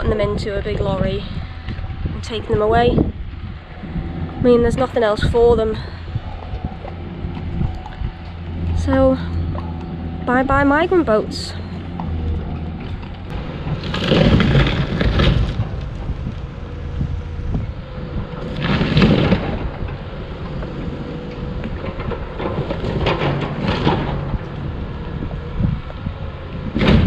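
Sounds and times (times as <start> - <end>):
heavy machinery engine rumble: 0.0 - 27.0
wooden boats crunching: 0.0 - 27.0.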